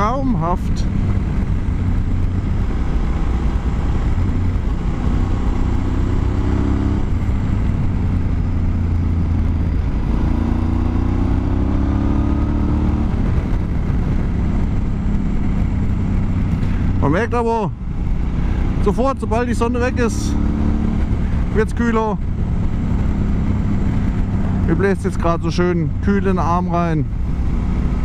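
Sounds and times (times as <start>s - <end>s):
motorcycle engine revving: 0.0s - 28.0s
wind rush: 0.0s - 28.0s.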